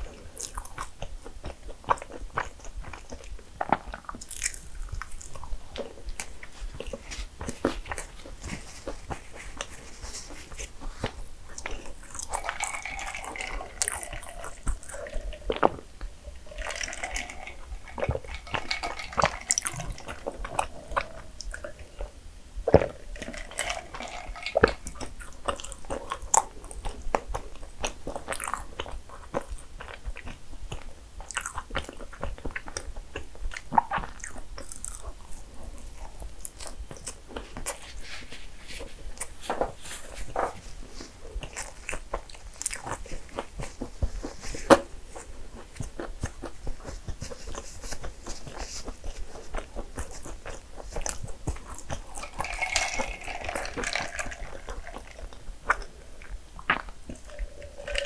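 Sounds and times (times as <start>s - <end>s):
person chewing and biting food: 0.1s - 38.0s, 38.9s - 58.0s.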